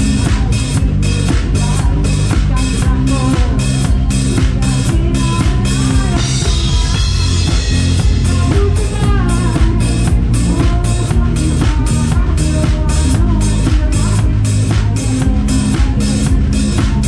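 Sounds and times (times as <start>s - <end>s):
drum kit beat: 0.0s - 17.0s
live pop-rock band: 0.0s - 17.0s.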